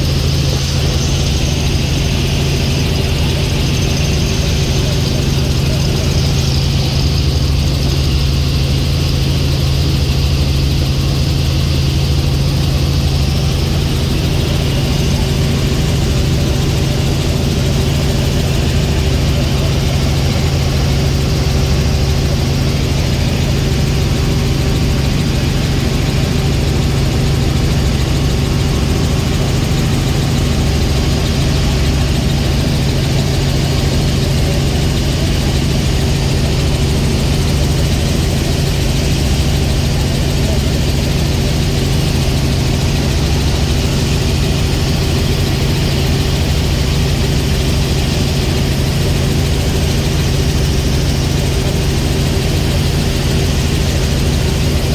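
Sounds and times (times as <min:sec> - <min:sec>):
helicopter cabin drone: 0:00.0 - 0:54.9.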